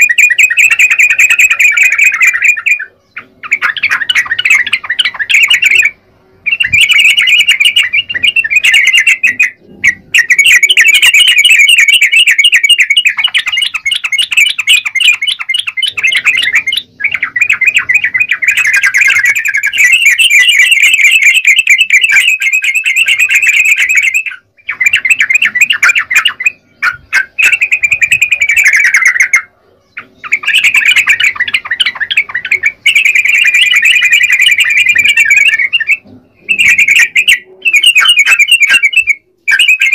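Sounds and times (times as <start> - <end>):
bird warbling song: 0.0 - 39.9.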